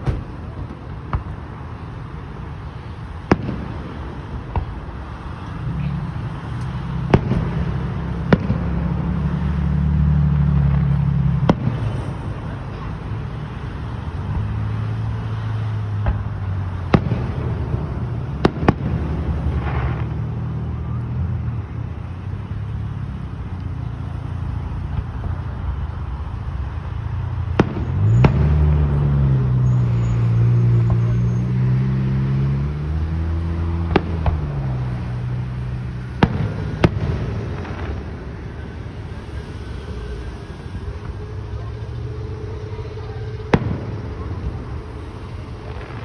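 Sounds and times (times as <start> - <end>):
fireworks banging: 0.0 - 21.0, 21.8 - 46.0.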